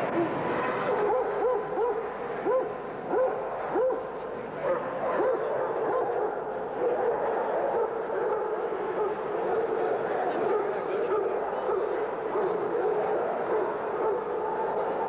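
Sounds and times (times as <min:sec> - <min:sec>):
crowd chatter: 0:00.0 - 0:15.0
dog barking: 0:00.1 - 0:09.8, 0:10.5 - 0:14.5.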